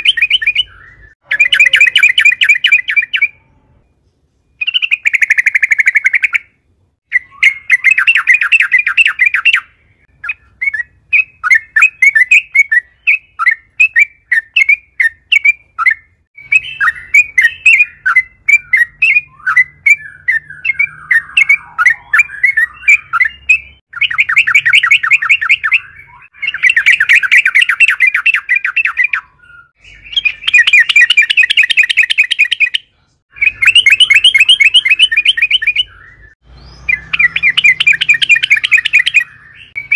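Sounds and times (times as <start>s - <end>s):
bulbul singing rapid chattering notes: 4.6s - 39.9s.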